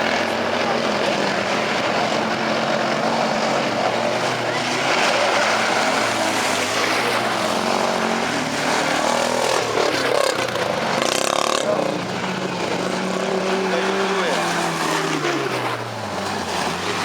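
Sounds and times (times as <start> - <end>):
off-road vehicle engine under load: 0.0 - 17.0.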